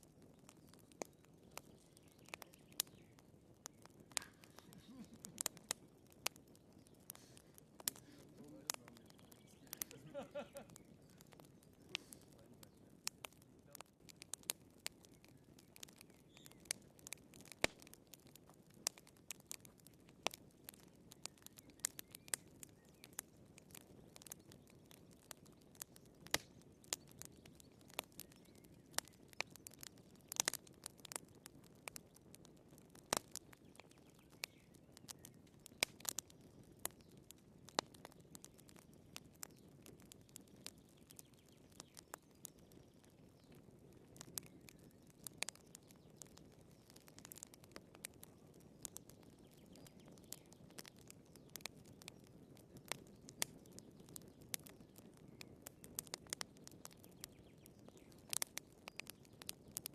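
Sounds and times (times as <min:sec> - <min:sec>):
soft hiss of flames: 0:00.0 - 0:59.9
wood fire crackling and popping: 0:00.0 - 0:59.9.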